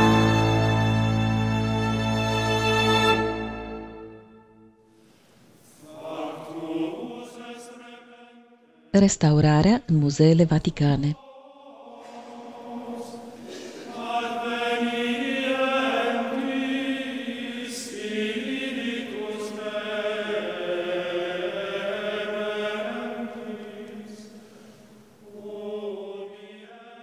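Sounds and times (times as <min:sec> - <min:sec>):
choir singing a slow chant: 0:00.0 - 0:04.1, 0:05.6 - 0:08.9, 0:11.2 - 0:27.0.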